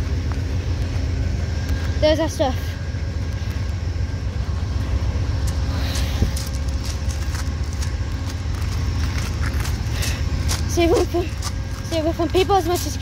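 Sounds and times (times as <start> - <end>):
idling train rumble and hum: 0.0 - 13.0.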